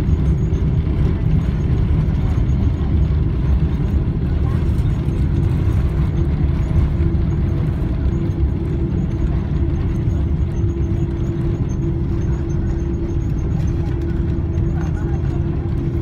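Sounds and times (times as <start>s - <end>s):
low aircraft cabin rumble: 0.0s - 16.0s.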